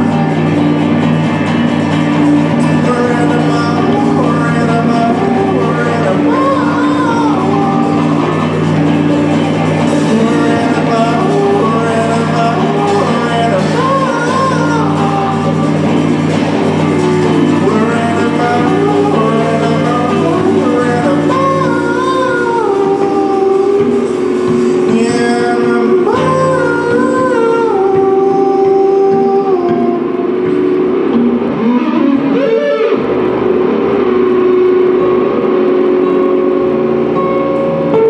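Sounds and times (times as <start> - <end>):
person singing: 0.0 - 35.2
acoustic band playing: 0.0 - 38.0.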